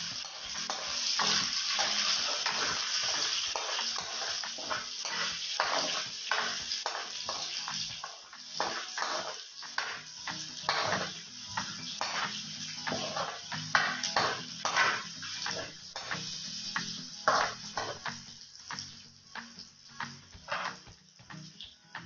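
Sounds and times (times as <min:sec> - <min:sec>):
meat sizzling in hot oil: 0:00.0 - 0:22.0
spatula scraping and knocking pan: 0:00.2 - 0:18.2, 0:20.0 - 0:21.0.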